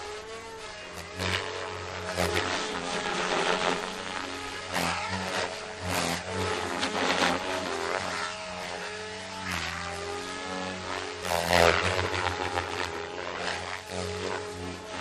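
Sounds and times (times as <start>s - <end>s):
rc helicopter motor and rotor whine: 0.0s - 15.0s.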